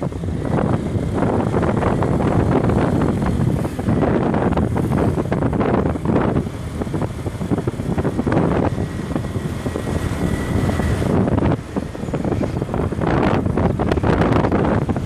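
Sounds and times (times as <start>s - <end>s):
motorbike engine: 0.0s - 15.0s
wind buffeting microphone: 0.0s - 15.0s.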